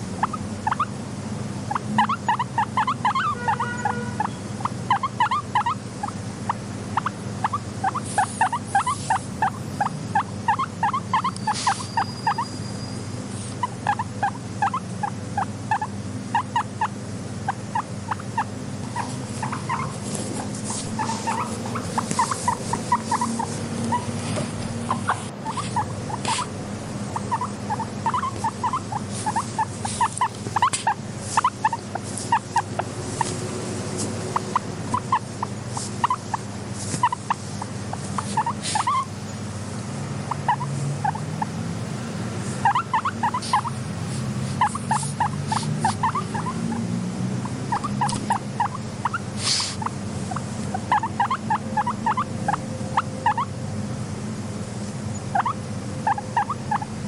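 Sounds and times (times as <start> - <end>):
guinea pig squeaking: 0.0 - 1.0, 1.6 - 39.6, 40.2 - 53.6, 55.1 - 57.0.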